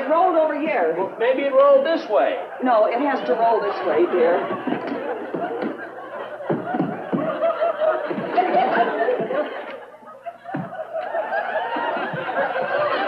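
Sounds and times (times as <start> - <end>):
audience laughing: 2.2 - 13.0.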